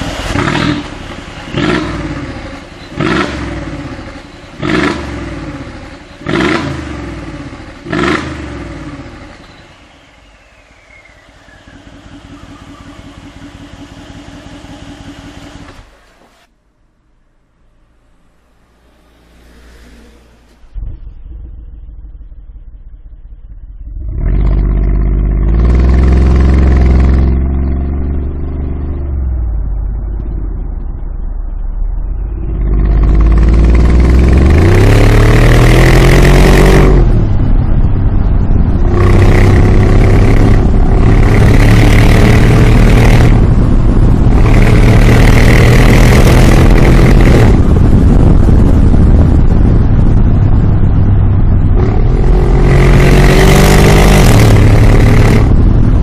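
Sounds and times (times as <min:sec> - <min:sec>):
car engine revving: 0:00.0 - 0:16.5, 0:18.0 - 0:56.0.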